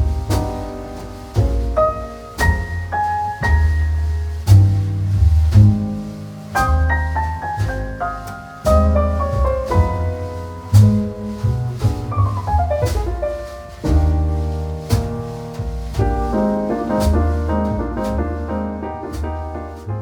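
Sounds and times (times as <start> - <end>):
drum kit beat: 0.0 - 19.6
bass line: 0.0 - 20.0
piano: 0.0 - 20.0.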